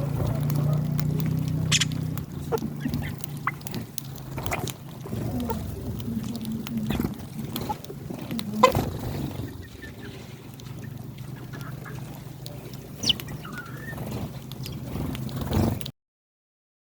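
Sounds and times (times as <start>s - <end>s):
steady low hum: 0.0s - 15.6s
hens and chicks calling: 0.0s - 15.8s
sparrows chirping: 0.0s - 15.9s.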